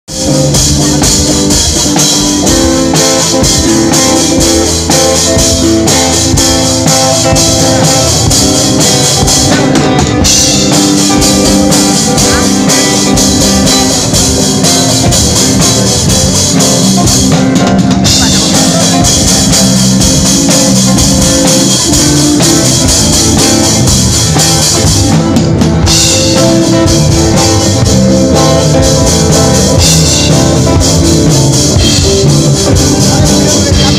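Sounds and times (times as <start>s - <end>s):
drum kit with cymbals: 0.1s - 33.9s
electric guitar: 0.1s - 33.9s.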